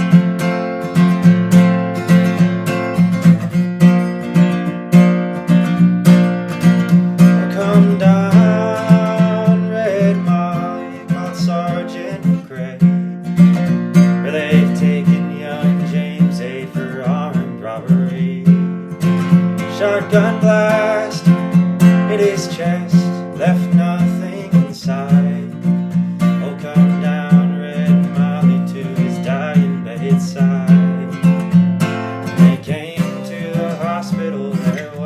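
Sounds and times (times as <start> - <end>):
acoustic guitar picking: 0.0 - 35.0.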